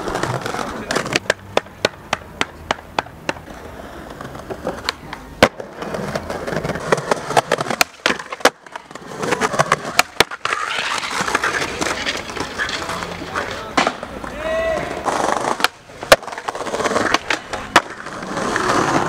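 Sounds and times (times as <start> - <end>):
skateboard cracking: 0.0 - 19.0
skateboard grinding on concrete: 0.0 - 19.0
skateboard wheels rolling: 0.0 - 19.0.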